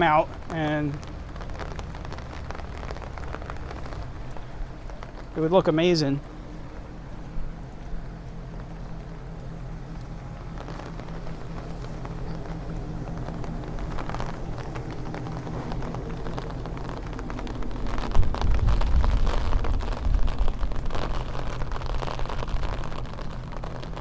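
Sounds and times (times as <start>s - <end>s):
deep rumble: 0.0s - 24.0s
street traffic hum: 0.0s - 24.0s.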